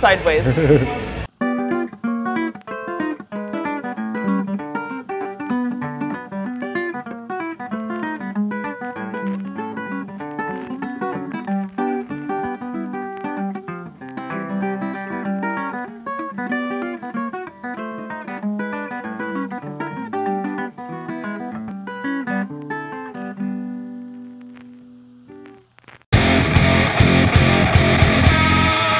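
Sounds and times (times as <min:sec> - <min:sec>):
upbeat guitar tune: 0:00.0 - 0:28.9.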